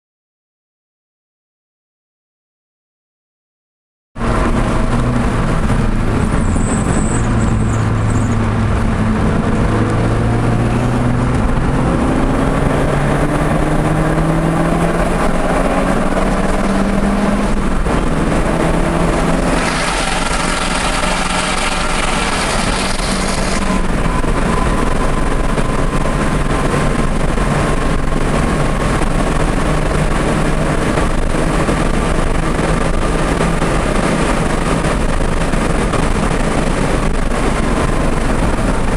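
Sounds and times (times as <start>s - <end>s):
car engine revving: 4.2s - 38.9s
road and tyre noise: 4.2s - 38.9s.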